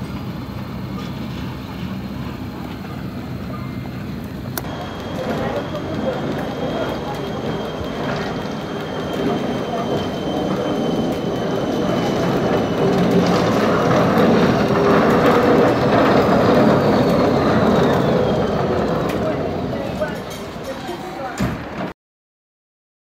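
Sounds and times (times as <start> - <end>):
electric rack locomotive running: 0.0 - 21.3.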